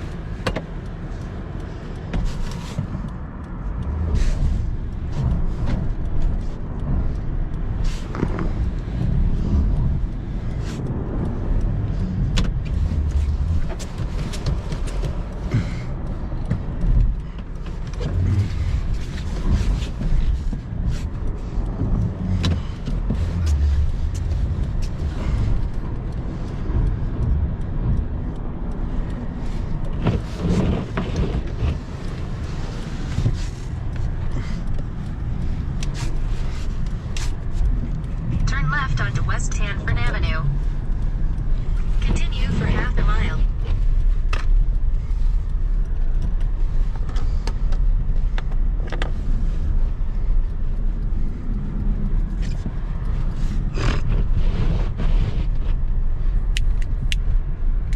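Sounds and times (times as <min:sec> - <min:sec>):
car engine and tyres rumble: 0:00.0 - 0:57.9.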